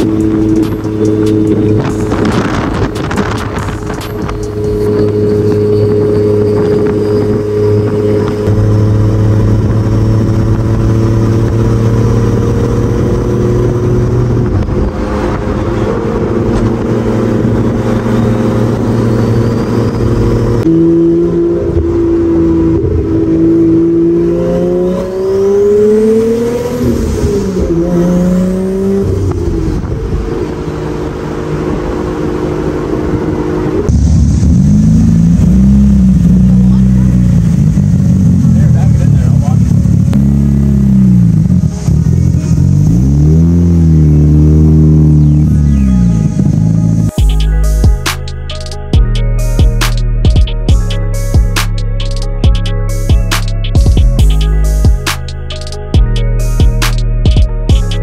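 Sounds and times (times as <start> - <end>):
another car engine running: 0.0 - 58.0
car engine revving: 0.0 - 58.0.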